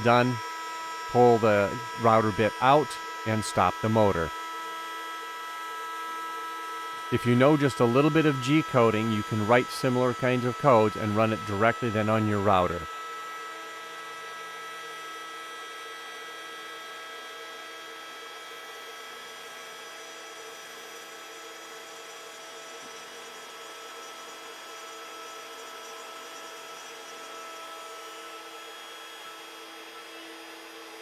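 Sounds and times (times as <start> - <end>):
router spindle whining: 0.0 - 31.0.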